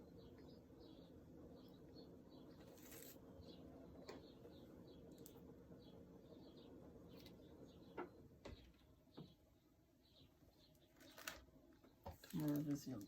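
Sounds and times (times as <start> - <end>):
faint room hum: 0.0 - 13.0
small birds chirping: 0.0 - 13.0.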